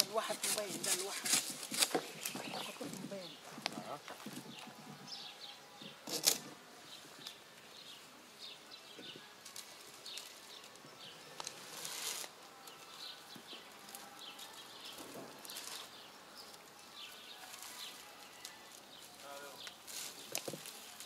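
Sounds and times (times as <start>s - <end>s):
birds chirping: 0.0s - 21.0s
rustling: 0.0s - 21.0s.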